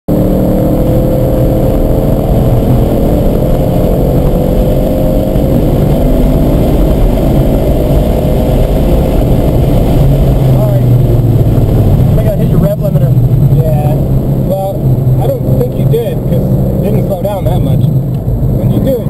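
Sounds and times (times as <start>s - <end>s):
car engine accelerating: 0.1s - 19.0s.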